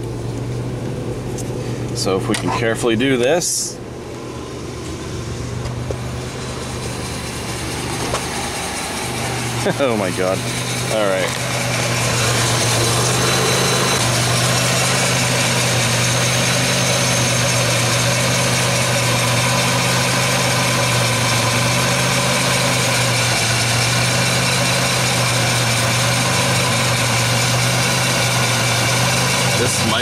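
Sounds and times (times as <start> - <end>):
car engine running steady hum: 0.0 - 30.0.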